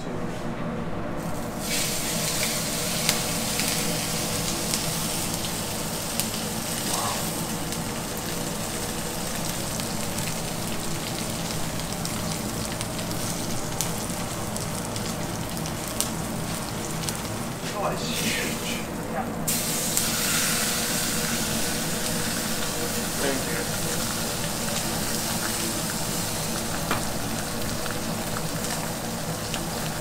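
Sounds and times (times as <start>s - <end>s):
steak sizzling in a pan: 1.6s - 18.9s, 19.5s - 30.0s.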